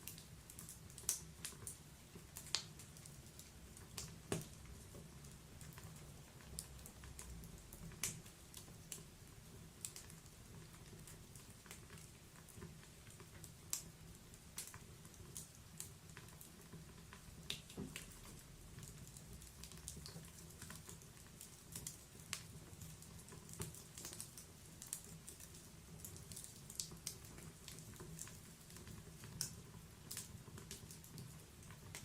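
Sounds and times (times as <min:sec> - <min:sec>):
log fire crackling: 0:00.0 - 0:32.0.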